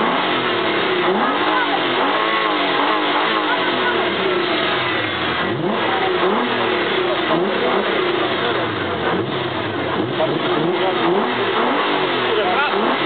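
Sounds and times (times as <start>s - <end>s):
car engine revving over idle: 0.0s - 13.0s.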